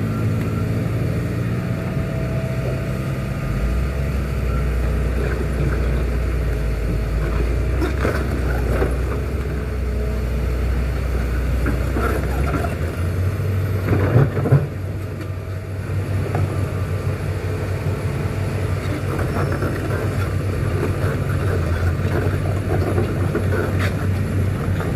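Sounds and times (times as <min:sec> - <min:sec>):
heavy diesel engine droning: 0:00.0 - 0:24.9.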